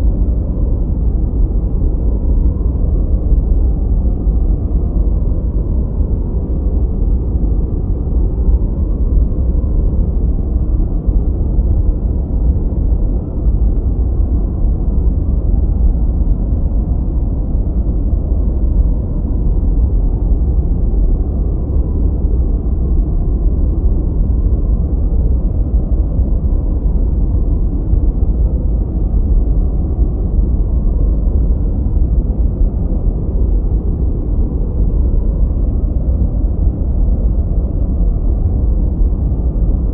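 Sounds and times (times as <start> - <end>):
deep rumbling white noise: 0.0 - 39.9.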